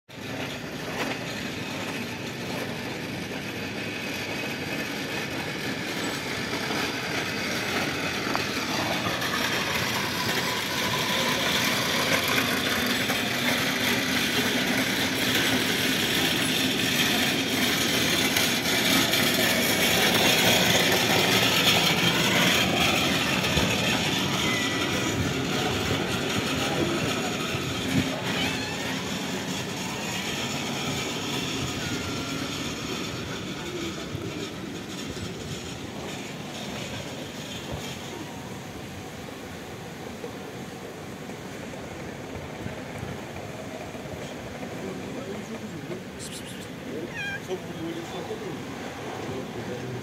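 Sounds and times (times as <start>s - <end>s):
street traffic engines: 0.1s - 50.0s.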